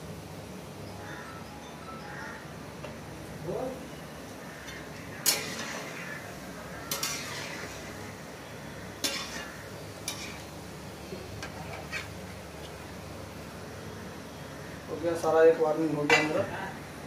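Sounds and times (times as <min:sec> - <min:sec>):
dough frying in hot oil: 0:03.1 - 0:17.0.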